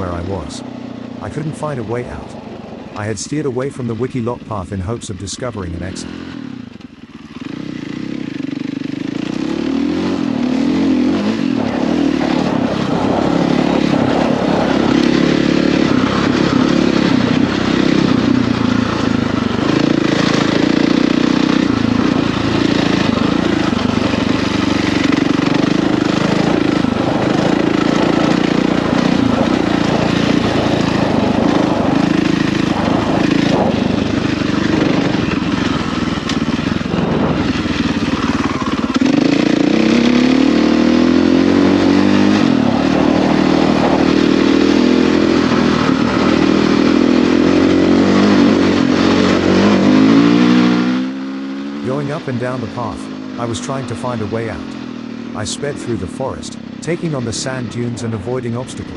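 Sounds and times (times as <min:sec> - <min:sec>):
dirt bike engine running: 0:00.0 - 0:58.9.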